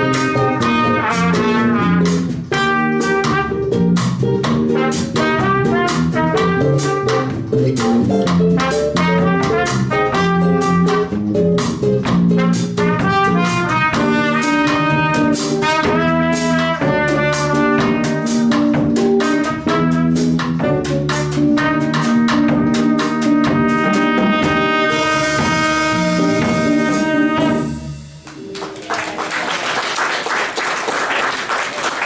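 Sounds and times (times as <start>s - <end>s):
trumpet melody: 0.0s - 4.0s, 4.6s - 7.8s, 8.4s - 28.5s
electric bass: 0.0s - 28.4s
drum kit with cymbals: 0.0s - 28.5s
guitar: 0.0s - 28.6s.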